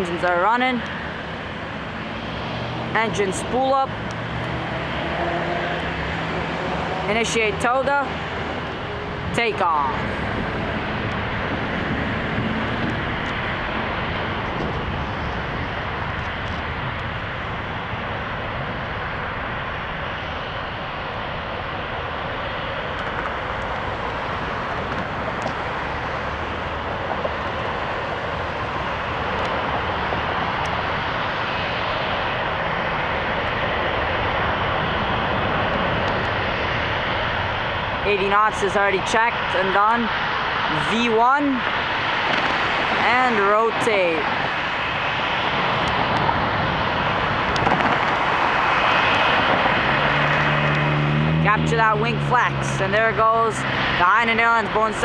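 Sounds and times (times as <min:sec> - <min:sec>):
jet engines at takeoff thrust: 0:00.0 - 0:55.0.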